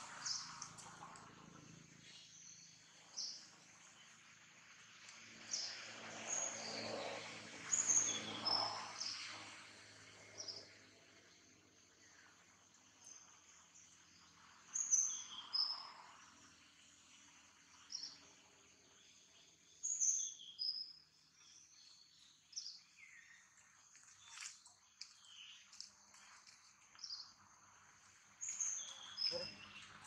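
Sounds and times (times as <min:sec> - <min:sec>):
faint outdoor background: 0:00.0 - 0:30.0.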